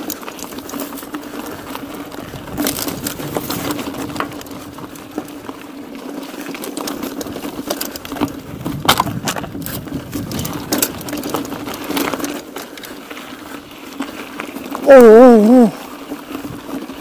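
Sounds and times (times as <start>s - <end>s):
bike rattles and knocks: 0.0s - 17.0s
mountain bike buzz: 0.0s - 17.0s.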